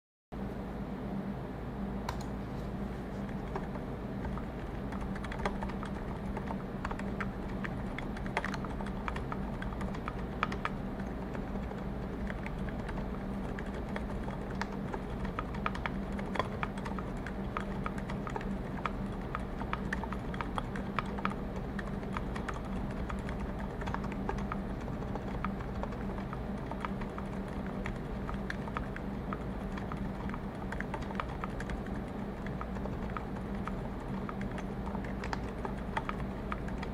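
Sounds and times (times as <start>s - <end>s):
steady low hum: 0.4s - 36.9s
muted mechanical keyboard typing: 3.2s - 36.9s.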